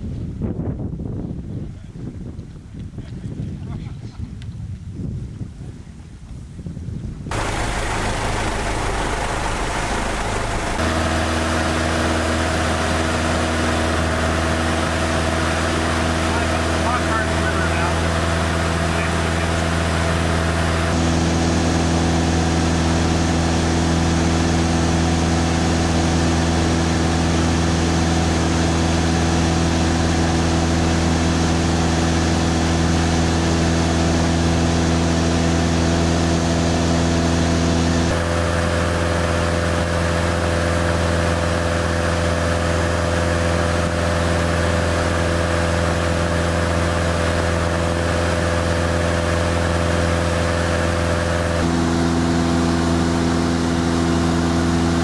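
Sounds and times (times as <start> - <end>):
propeller plane engine droning: 7.2 - 55.0.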